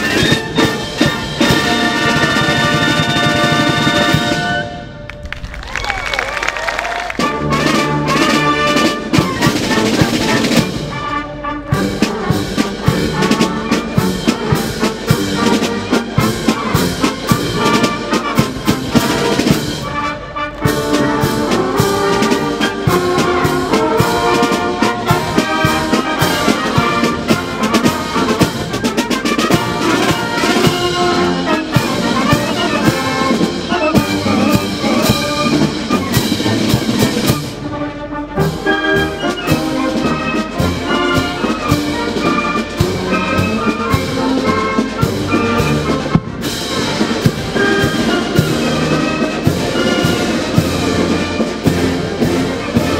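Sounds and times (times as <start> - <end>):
brass instruments playing: 0.0 - 52.9
snare drums beating time: 7.1 - 37.8, 38.6 - 52.9.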